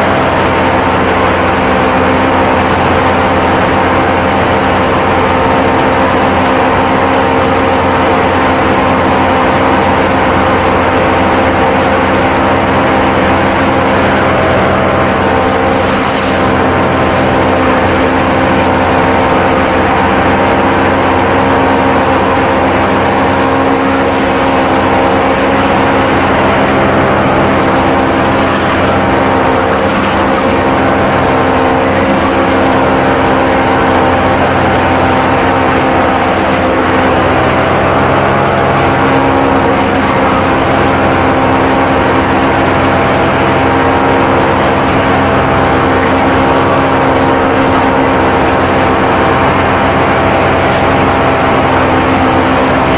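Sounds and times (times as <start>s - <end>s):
paramotor engine drone: 0.0s - 52.9s.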